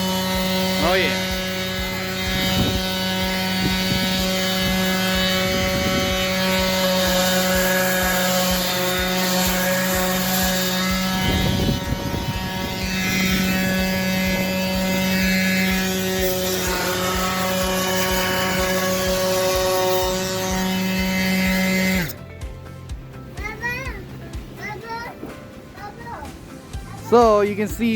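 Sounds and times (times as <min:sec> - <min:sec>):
orbital sander running: 0:00.0 - 0:23.6.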